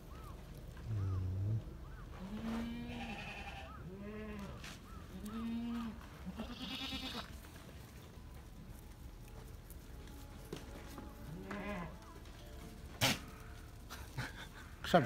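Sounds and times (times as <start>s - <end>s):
farm animals bleating: 0.1s - 7.5s, 9.7s - 15.0s.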